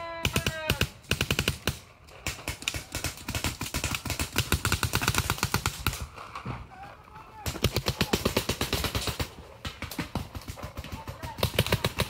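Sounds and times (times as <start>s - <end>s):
paintball marker firing rapidly: 0.2s - 6.0s, 7.4s - 12.0s.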